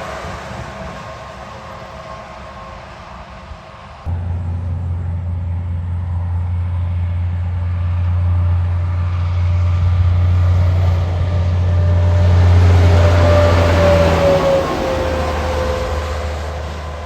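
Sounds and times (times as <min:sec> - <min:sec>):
faint whine: 0:00.0 - 0:17.0
truck diesel drone: 0:00.0 - 0:17.0.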